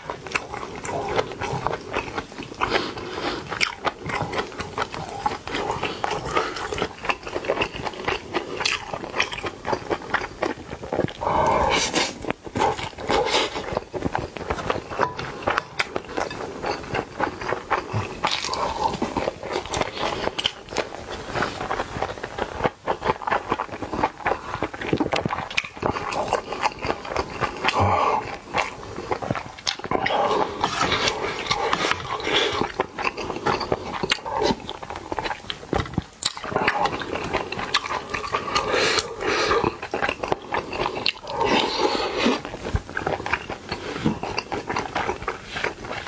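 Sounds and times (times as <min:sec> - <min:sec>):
mouth chewing and smacking: 0:00.0 - 0:46.0.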